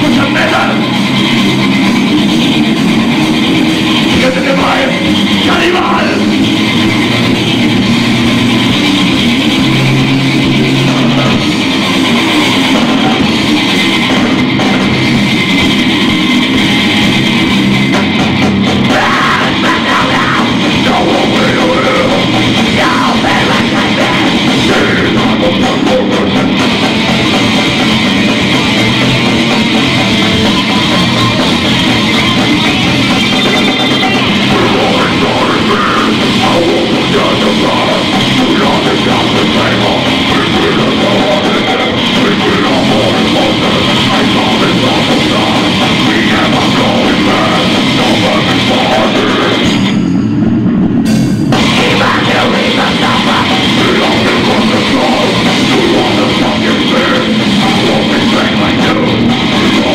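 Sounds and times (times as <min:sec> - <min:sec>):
distorted electric guitars: 0:00.0 - 0:59.9
drum kit: 0:00.0 - 0:59.9.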